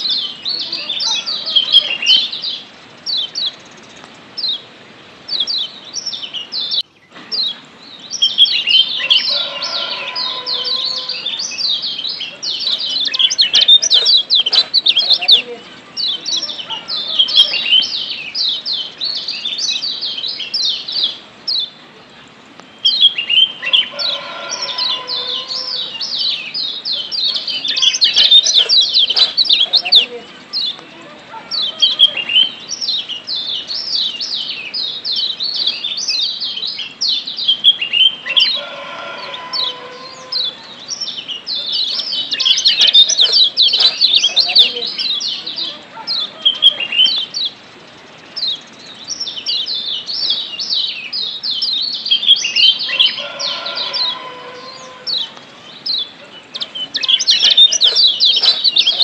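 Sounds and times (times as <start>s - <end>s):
bird singing high chirps: 0.0s - 4.7s, 5.3s - 59.0s.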